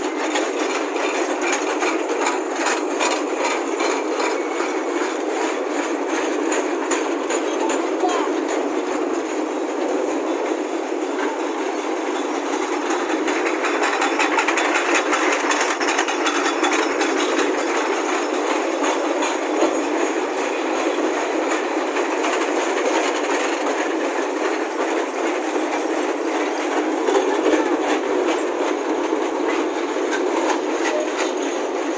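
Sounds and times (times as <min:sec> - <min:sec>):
train wheels clattering on rails: 0:00.0 - 0:31.9.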